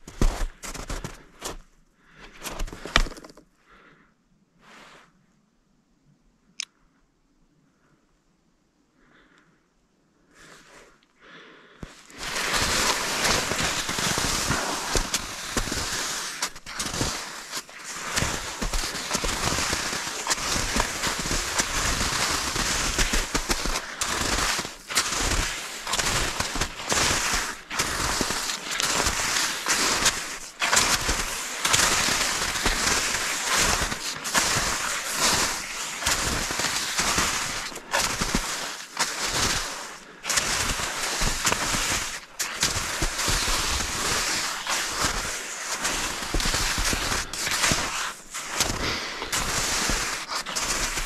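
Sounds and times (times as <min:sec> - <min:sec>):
footsteps on forest ground: 0:00.0 - 0:01.6, 0:02.2 - 0:03.4, 0:11.8 - 0:51.0.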